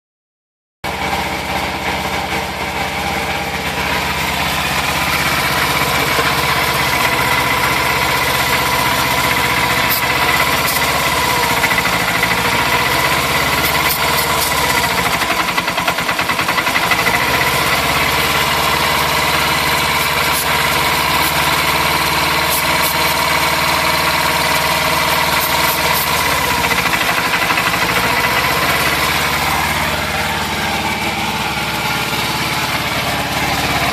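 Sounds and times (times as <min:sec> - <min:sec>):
motorcycle engine idling: 0:00.9 - 0:33.9.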